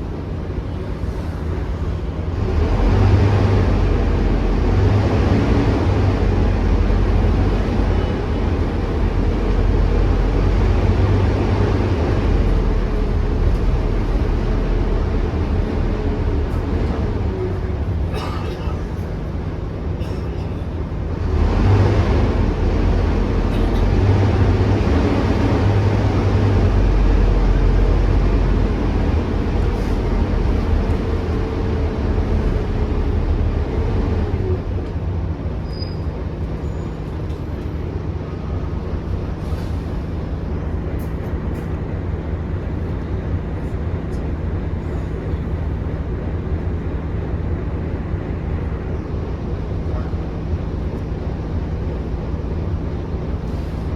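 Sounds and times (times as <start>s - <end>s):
bus diesel engine accelerating: 0.0s - 53.9s.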